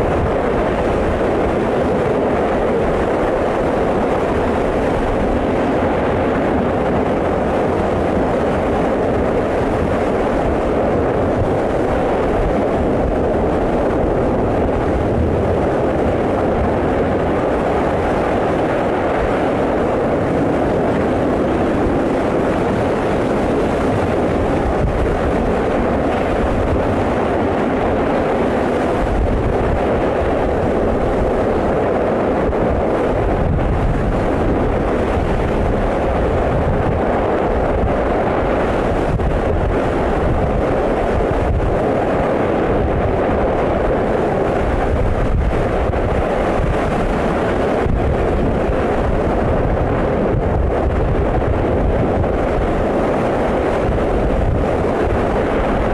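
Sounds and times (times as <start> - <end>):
lava rumbling roar: 0.0 - 55.9
wind buffeting microphone: 0.0 - 55.9.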